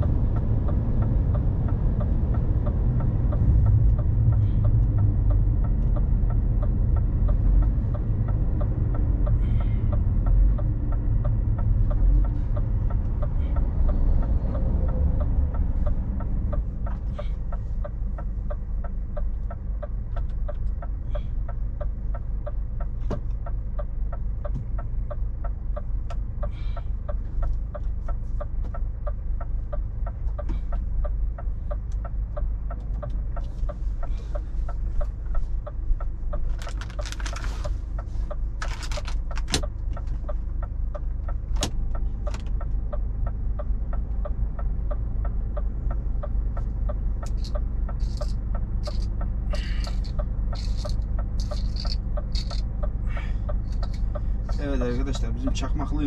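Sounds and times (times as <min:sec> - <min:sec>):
truck engine and road rumble: 0:00.0 - 0:56.0
turn signal ticking: 0:00.0 - 0:56.0.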